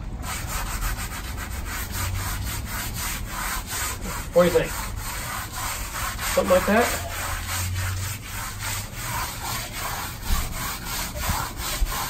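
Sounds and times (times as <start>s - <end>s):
foam sponge scrubbing brick wall: 0.2s - 12.0s.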